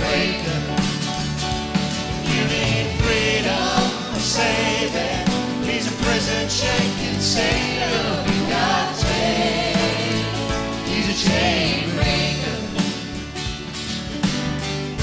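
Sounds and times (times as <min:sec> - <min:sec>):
choir singing: 0:00.0 - 0:01.4, 0:02.0 - 0:13.6
held instrumental chords: 0:00.0 - 0:15.0
steady drum beats: 0:00.0 - 0:15.0.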